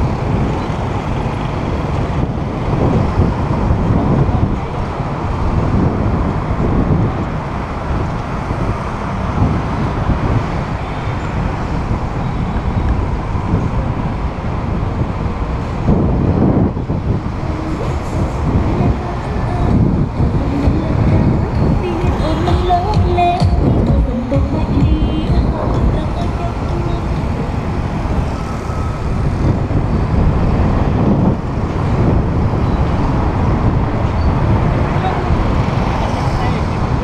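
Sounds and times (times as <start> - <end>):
street traffic: 0.0 - 37.0
wind rumble on microphone: 0.0 - 37.0.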